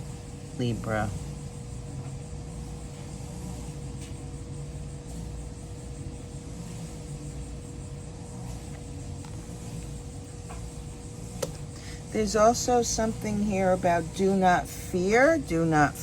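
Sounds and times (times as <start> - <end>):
low motor drone: 0.0 - 16.0.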